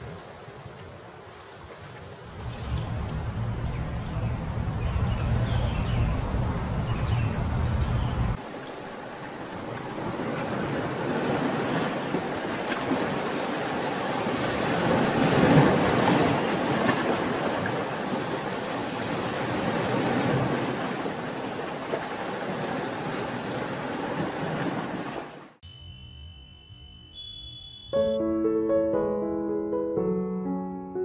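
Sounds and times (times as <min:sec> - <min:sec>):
ocean waves breaking: 0:00.0 - 0:25.6.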